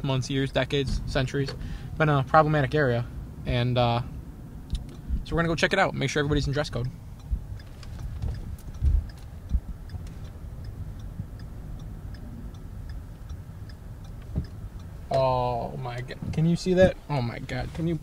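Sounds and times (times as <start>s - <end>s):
car engine and road rumble: 0.0s - 18.0s
turn signal ticking: 0.0s - 18.0s.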